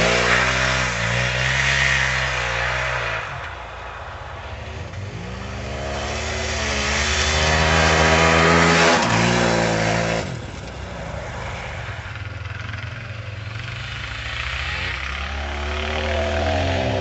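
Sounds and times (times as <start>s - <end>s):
motorcycle engine revving: 0.0s - 3.5s, 4.8s - 17.0s.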